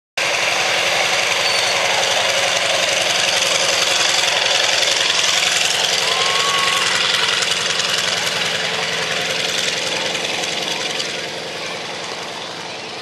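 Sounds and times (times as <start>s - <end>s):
propeller noise: 0.2s - 13.0s
radial aircraft engine running: 0.2s - 13.0s.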